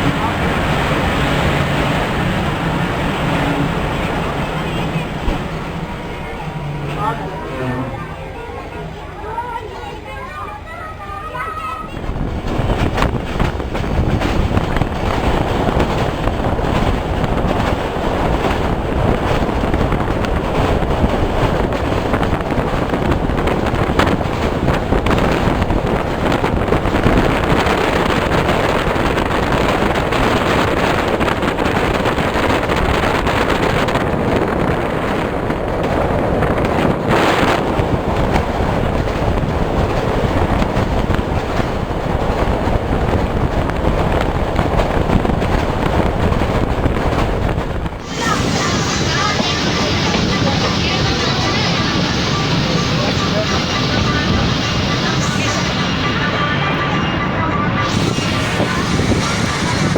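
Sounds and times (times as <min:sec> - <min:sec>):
passenger train running at speed: 0:00.0 - 0:59.9
wind buffeting microphone: 0:11.8 - 0:59.9.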